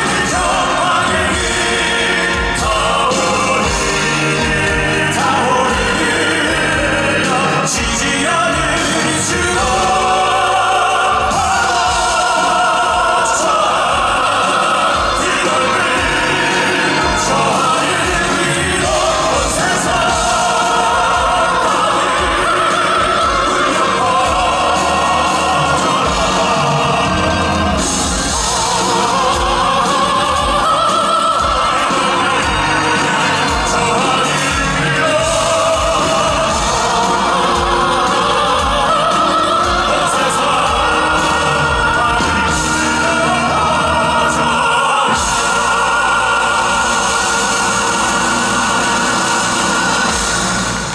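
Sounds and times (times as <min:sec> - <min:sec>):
instrumental accompaniment: 0:00.0 - 0:50.9
male vocal group singing operatically: 0:00.0 - 0:50.9
orchestral backing: 0:00.0 - 0:50.9.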